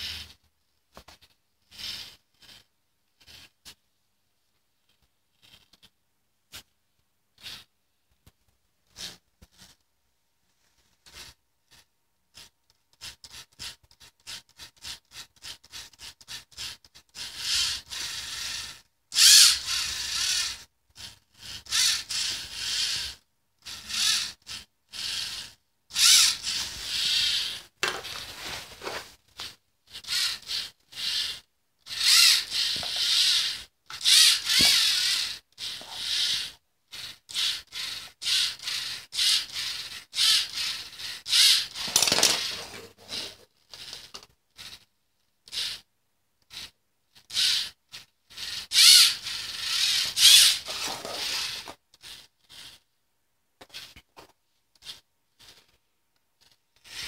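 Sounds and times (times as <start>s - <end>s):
toy motors and gears whirring: 0.0s - 3.8s, 4.8s - 6.7s, 7.3s - 7.7s, 8.8s - 9.8s, 10.6s - 52.9s, 53.6s - 55.8s, 56.4s - 57.0s.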